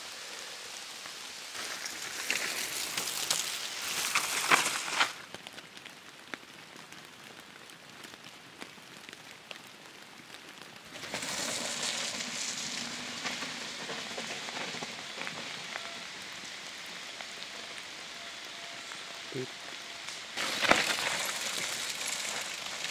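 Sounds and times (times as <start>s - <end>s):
bike tyres rolling through mud: 0.0s - 22.9s.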